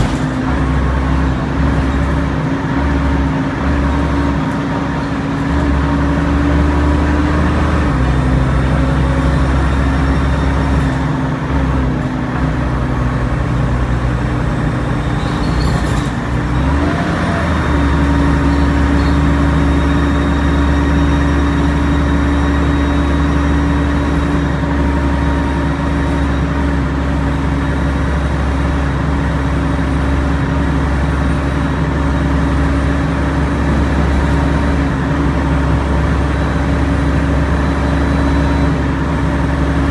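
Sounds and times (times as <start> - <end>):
jet-like gearbox whine: 0.0 - 11.2, 14.2 - 39.9
bus engine pulling uphill: 0.0 - 39.9.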